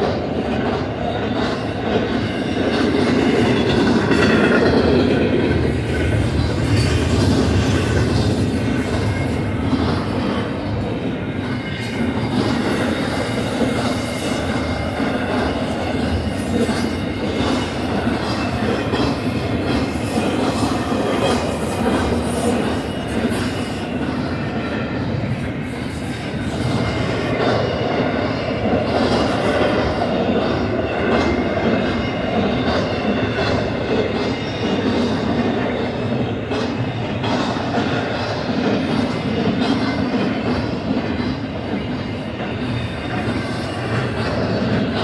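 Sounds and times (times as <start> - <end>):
freight train wheels rumbling on rail: 0.0 - 45.0.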